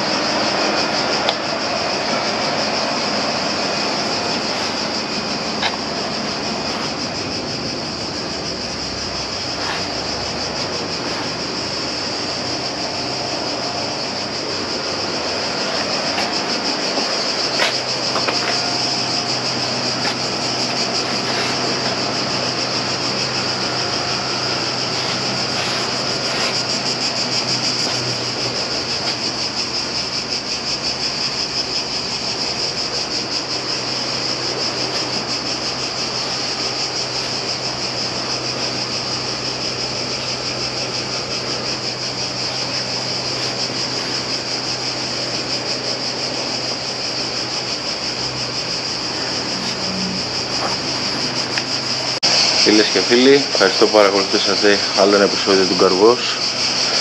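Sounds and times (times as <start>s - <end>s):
car-cleaning machine rushing: 0.0s - 57.0s.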